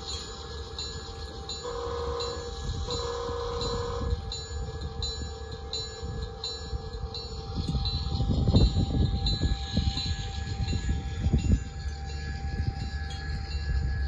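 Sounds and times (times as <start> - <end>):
low rumble of model train: 0.0 - 14.0
model train wheels clicking on rails: 0.0 - 14.0.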